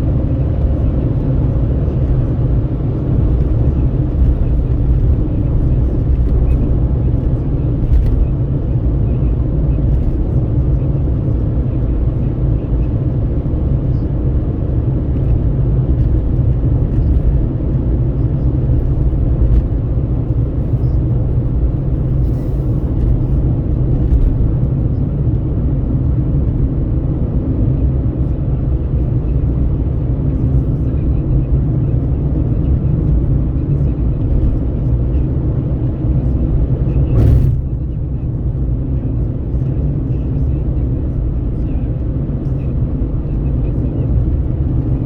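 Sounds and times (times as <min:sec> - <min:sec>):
engine and tyre rumble: 0:00.0 - 0:45.0.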